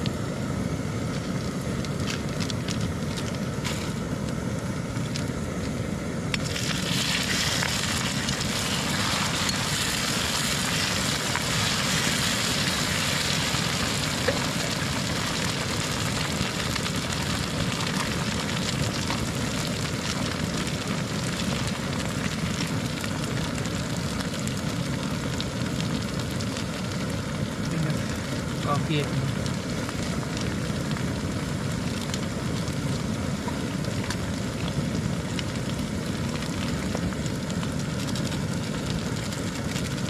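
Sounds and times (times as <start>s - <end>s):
masala sizzling in a wok: 0.0s - 40.0s
stove burner roar: 0.0s - 40.0s.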